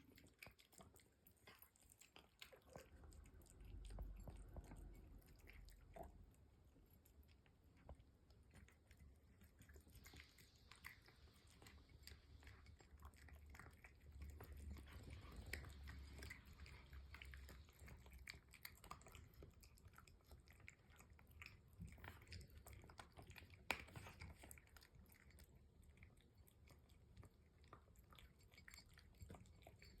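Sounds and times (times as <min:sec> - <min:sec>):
cat chewing wet food: 0:00.0 - 0:30.0.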